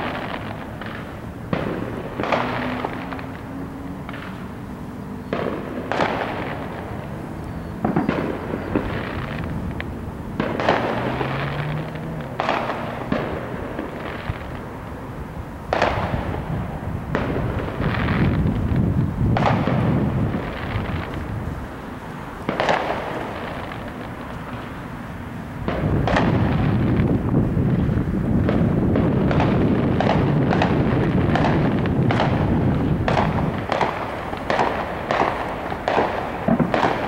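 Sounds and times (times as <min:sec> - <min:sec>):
fireworks bangs echoing: 0:00.0 - 0:37.0.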